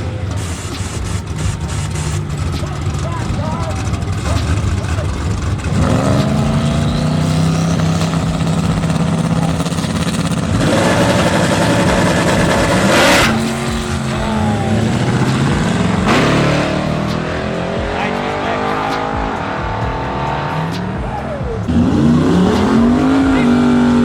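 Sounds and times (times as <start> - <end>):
racing car engine running: 0.0 - 24.0.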